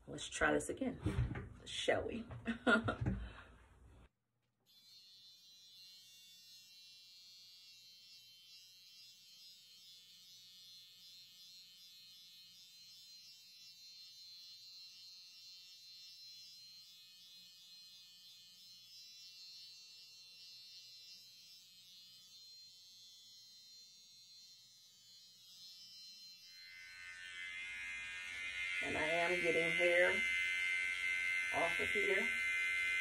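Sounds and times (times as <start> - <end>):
electric hair clippers buzzing: 4.7 - 33.0.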